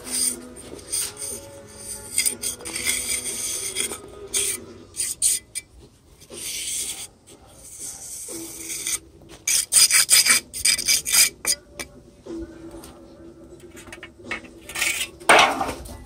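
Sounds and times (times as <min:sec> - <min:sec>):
trowel scraping rough coating: 0:00.0 - 0:11.6, 0:13.7 - 0:15.4.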